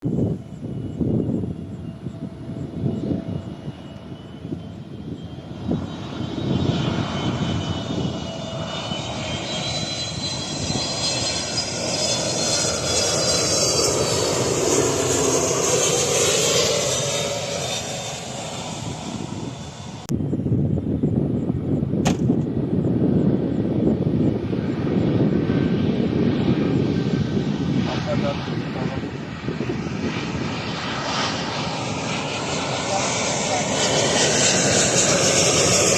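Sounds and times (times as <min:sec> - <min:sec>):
jet airliner passing overhead: 0:00.0 - 0:35.9.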